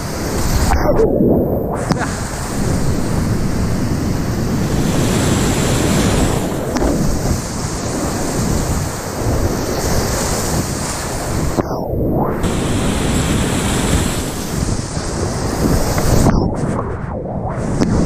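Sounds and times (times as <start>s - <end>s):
muffled water rumble: 0.0s - 18.0s.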